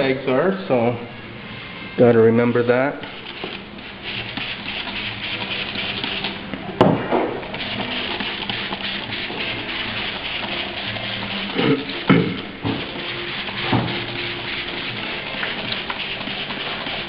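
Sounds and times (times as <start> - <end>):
steady hissing hum: 0.0 - 17.0.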